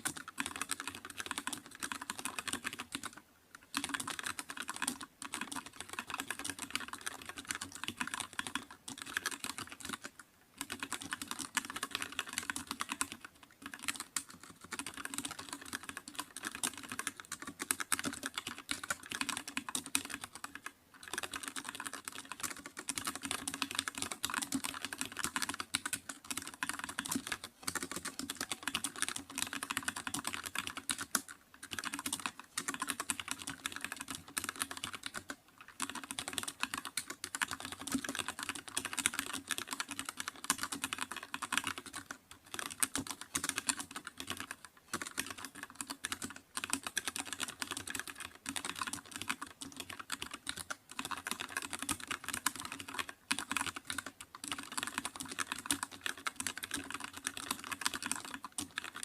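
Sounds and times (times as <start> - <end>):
typing on computer keyboard: 0.0 - 59.0.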